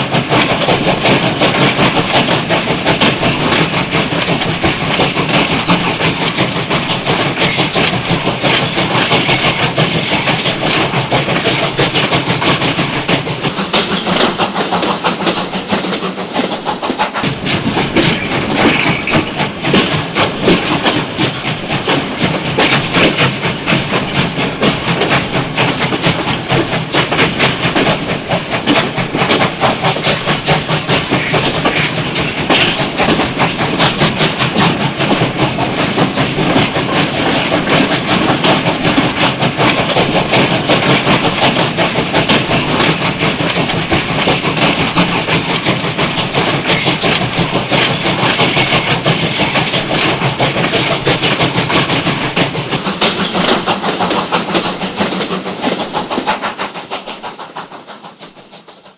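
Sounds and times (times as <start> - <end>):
steam train chugging: 0.0 - 58.9
wheel clatter on rails: 0.0 - 58.9.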